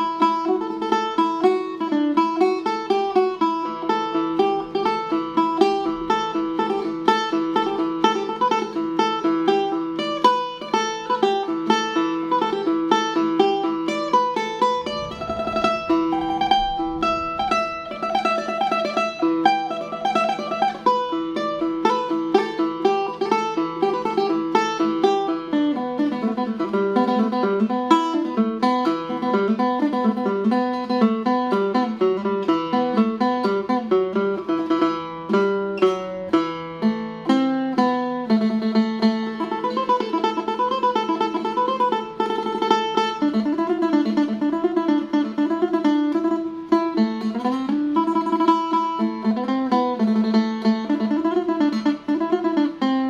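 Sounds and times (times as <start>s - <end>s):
plucked lute melody: 0.0s - 53.0s.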